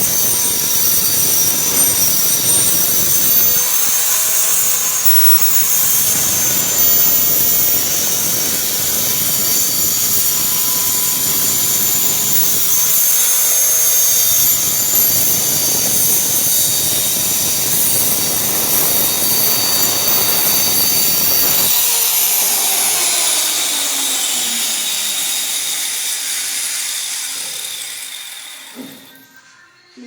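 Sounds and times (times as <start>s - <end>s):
power tool running and spinning down: 0.0s - 29.3s.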